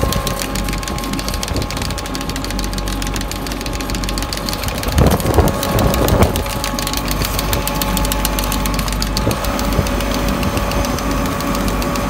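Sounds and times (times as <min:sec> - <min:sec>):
fast clatter of ticks: 0:00.0 - 0:12.0
tractor engine running: 0:00.0 - 0:12.0.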